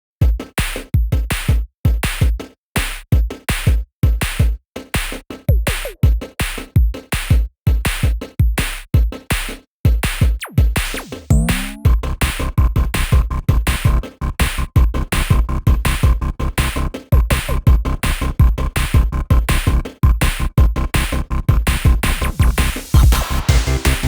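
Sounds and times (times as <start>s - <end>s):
electronic music with drum machine: 0.2s - 24.0s.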